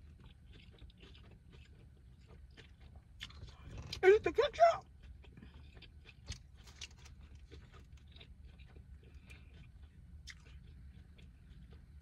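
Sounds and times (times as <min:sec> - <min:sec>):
chewing with mouth clicks: 0:00.0 - 0:04.2, 0:04.8 - 0:12.0.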